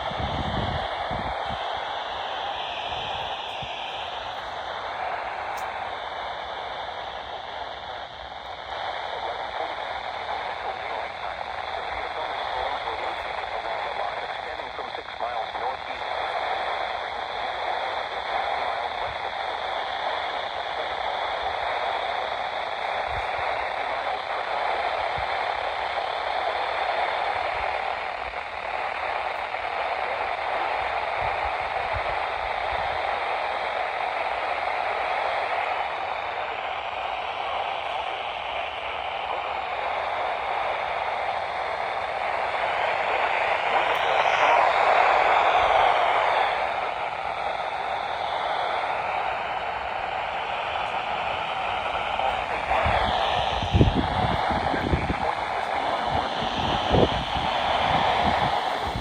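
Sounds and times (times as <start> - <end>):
radio static hiss: 0.0 - 59.0.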